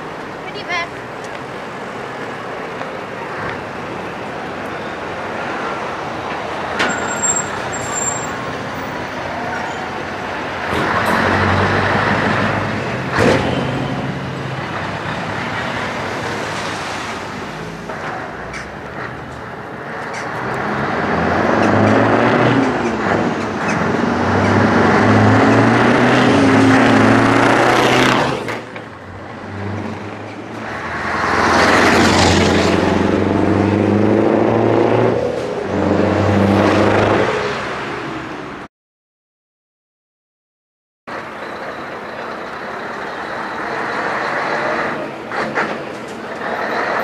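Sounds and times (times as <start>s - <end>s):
truck engines rumbling past: 0.0s - 38.7s, 41.1s - 47.0s.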